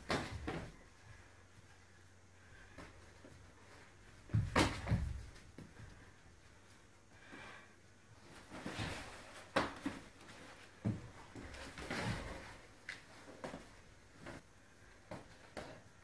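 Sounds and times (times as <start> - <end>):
clothing and gloves rustling: 0.0 - 16.0.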